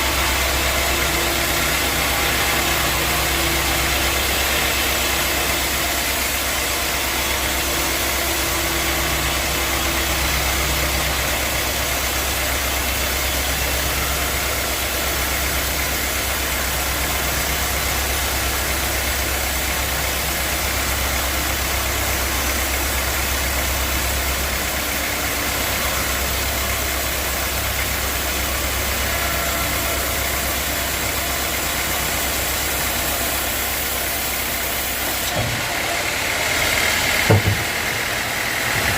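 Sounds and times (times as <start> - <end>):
sawmill machinery humming and hissing: 0.0 - 38.9.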